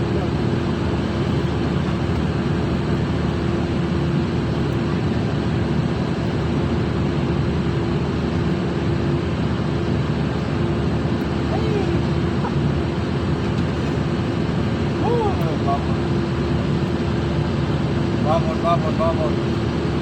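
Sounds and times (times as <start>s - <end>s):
ship machinery drone: 0.0s - 20.0s.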